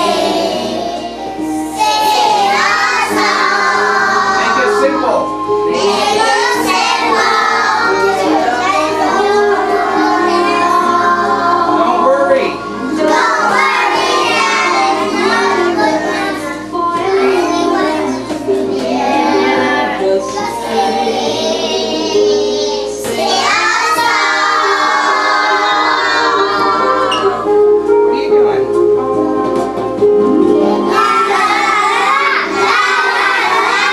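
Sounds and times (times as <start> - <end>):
children singing in chorus: 0.0 - 4.7, 5.6 - 12.1, 12.8 - 27.6, 30.5 - 33.9.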